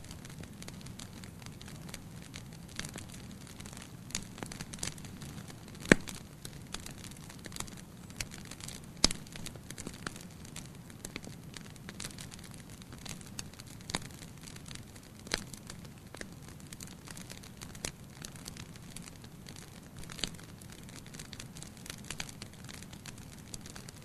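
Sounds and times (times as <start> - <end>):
fire crackling and popping: 0.0 - 24.0
fire low rumble: 0.0 - 24.0.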